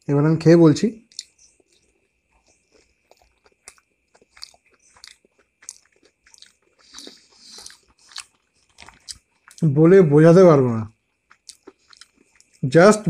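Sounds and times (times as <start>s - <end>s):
person chewing food: 1.0s - 9.8s, 10.6s - 12.8s.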